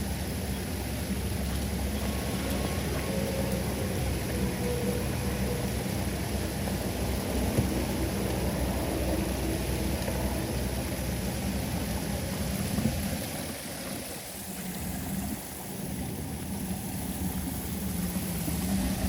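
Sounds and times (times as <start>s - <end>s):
faint hum: 0.0s - 19.0s
floodwater rushing down drain: 0.0s - 19.0s.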